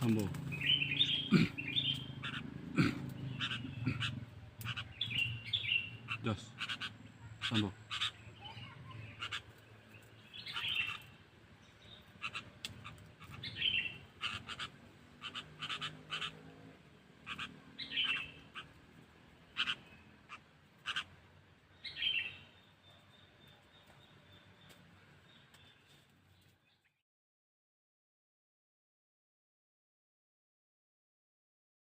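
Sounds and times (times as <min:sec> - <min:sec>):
bird chipping calls: 0:00.0 - 0:26.0.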